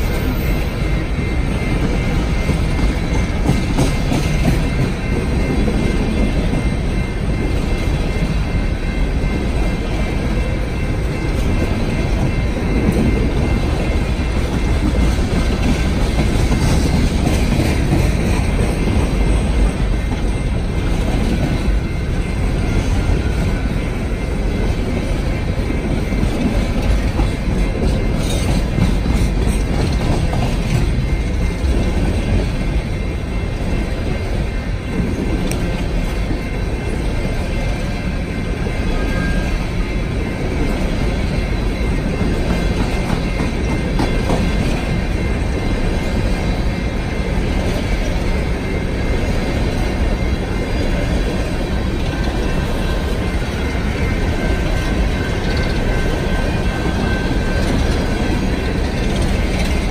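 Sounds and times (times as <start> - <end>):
freight train rumble: 0.0 - 59.9.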